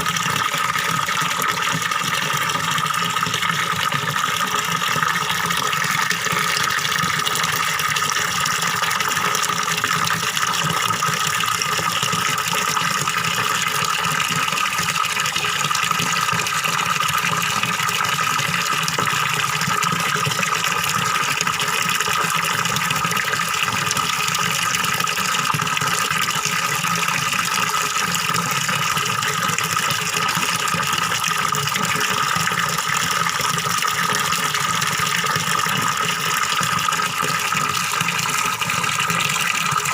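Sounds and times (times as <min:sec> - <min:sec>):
small waterfall splashing into pond: 0:00.0 - 0:39.9.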